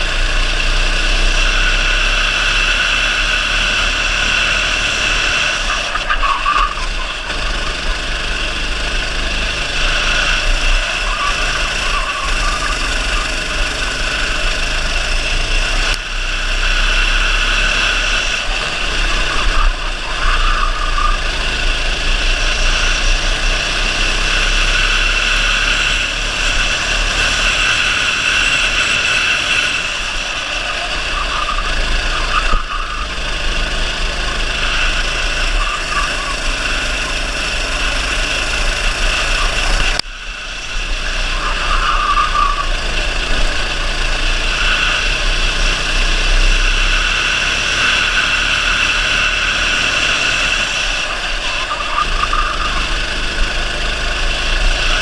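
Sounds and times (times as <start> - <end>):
go-kart engine racing: 0.0 - 55.0.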